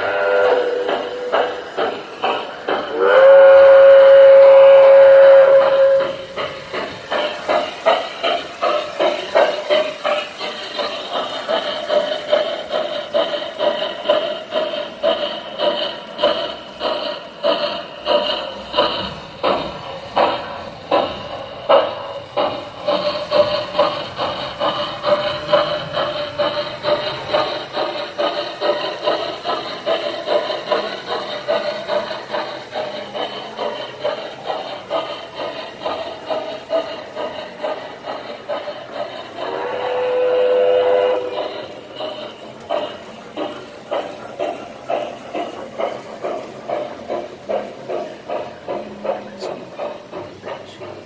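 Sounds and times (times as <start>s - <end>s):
model steam locomotive chuffing: 0.0s - 51.0s
train rumbling on track: 0.0s - 51.0s.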